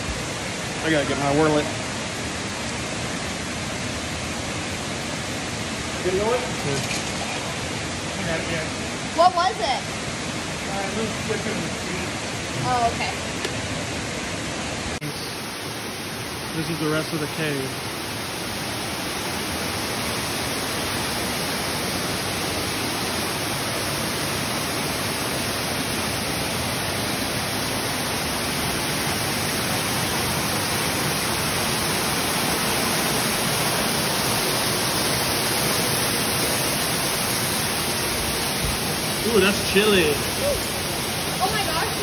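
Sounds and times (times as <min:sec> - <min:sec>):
waterfall rushing in a cave: 0:00.0 - 0:42.0.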